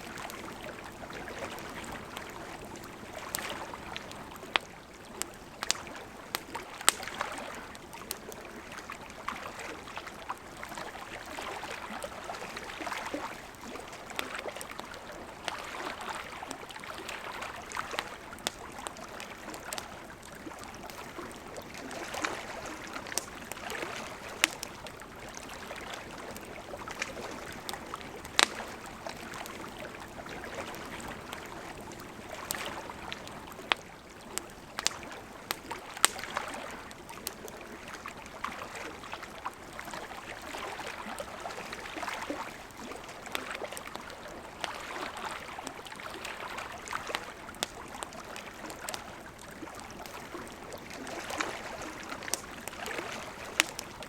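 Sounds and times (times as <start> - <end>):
campfire crackling: 0.0 - 54.0
water lapping at shore: 0.0 - 54.0.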